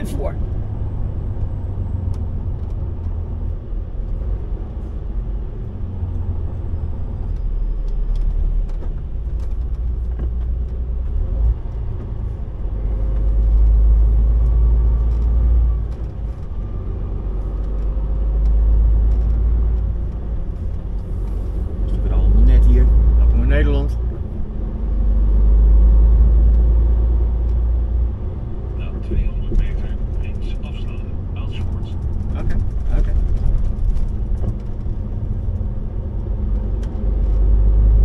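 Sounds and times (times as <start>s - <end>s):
road noise: 0.0s - 38.0s
truck engine rumble: 0.0s - 38.0s.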